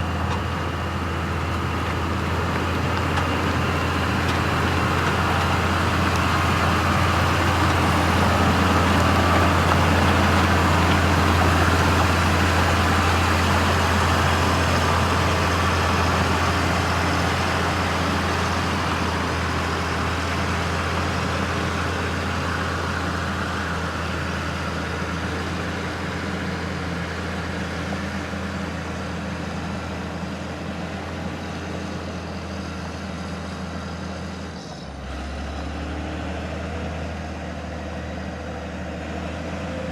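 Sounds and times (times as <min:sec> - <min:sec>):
heavy truck engine under load: 0:00.0 - 0:39.9.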